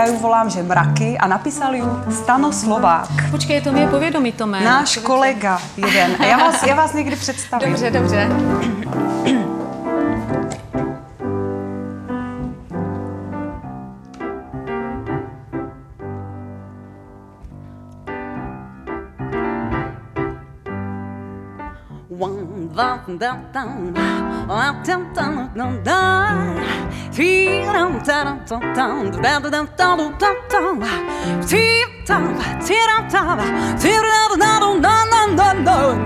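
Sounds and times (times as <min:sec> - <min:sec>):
upright piano chords: 0:00.0 - 0:36.0.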